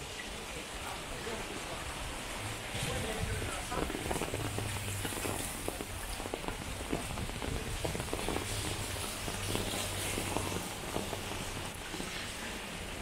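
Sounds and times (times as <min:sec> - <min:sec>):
rain on a wet street: 0:00.0 - 0:13.0.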